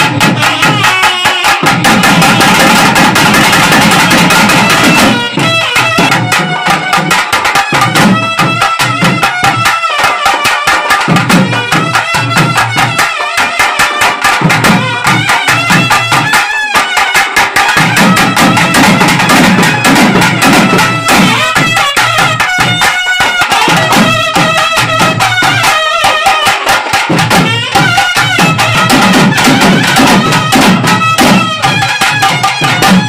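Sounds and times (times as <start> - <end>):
rapid drum strokes: 0.0 - 33.0
double reed pipe melody: 0.1 - 33.0.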